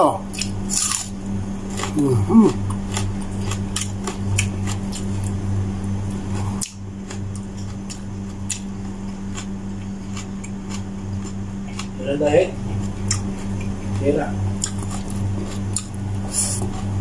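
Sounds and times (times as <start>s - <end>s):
steady low hum: 0.0s - 17.0s
person chewing food: 0.3s - 5.4s, 6.1s - 12.0s, 12.6s - 17.0s.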